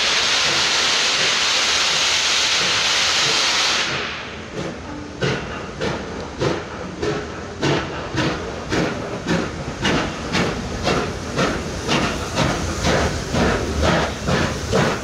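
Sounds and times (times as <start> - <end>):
steam hissing: 0.0 - 15.0
steam locomotive exhaust chuffs: 0.0 - 15.0.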